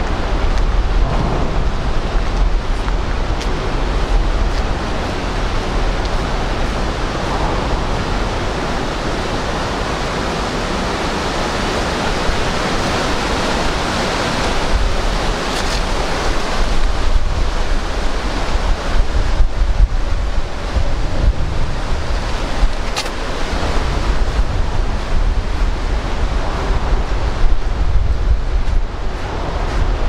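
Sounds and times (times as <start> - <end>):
churning tidal water: 0.0 - 30.0
wind buffeting microphone: 0.0 - 30.0
wind rushing: 0.0 - 30.0.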